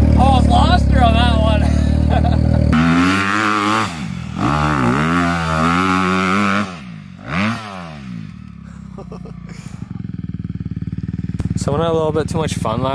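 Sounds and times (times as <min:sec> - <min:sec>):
vehicle engine revving: 0:00.0 - 0:12.9.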